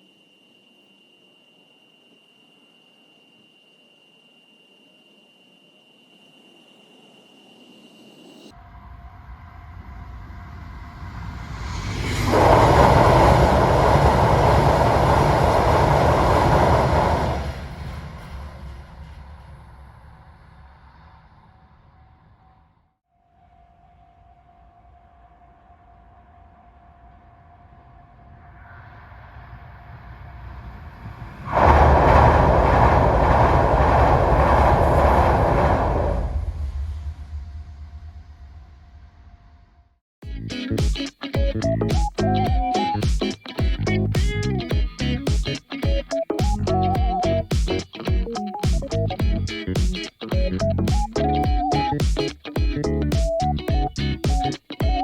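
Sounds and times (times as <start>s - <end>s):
high-speed train passing: 0.0s - 22.7s, 23.4s - 39.8s, 43.2s - 52.5s.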